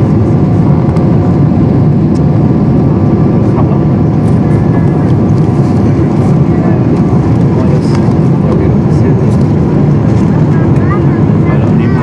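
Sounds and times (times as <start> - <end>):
jet engine and airflow noise: 0.0 - 12.0.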